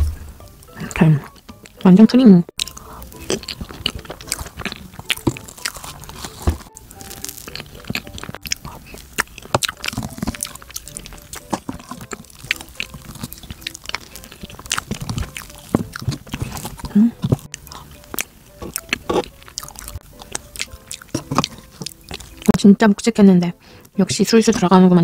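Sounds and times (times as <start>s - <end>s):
wet chewing: 0.4s - 22.7s.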